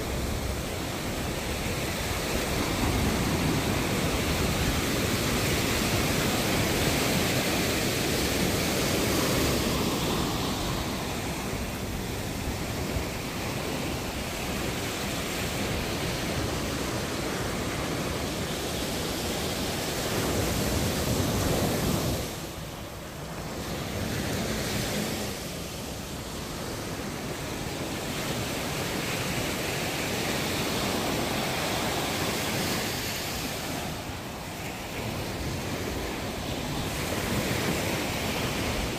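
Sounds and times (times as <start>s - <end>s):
sea surf breaking: 0.0s - 38.9s
wind rumbling on microphone: 0.0s - 38.9s.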